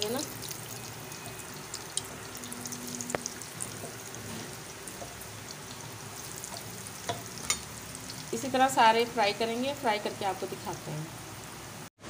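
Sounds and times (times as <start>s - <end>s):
deep-frying sizzle in oil: 0.0s - 11.9s.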